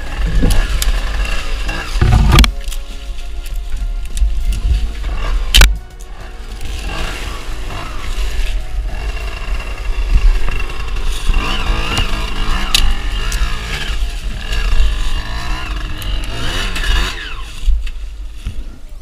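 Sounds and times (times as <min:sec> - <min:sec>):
motorcycle engine revving: 0:00.0 - 0:02.7, 0:04.7 - 0:18.4.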